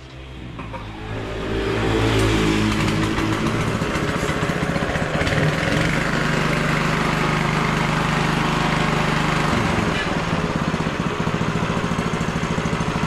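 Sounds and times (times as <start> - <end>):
small engine idling: 2.2 - 13.0.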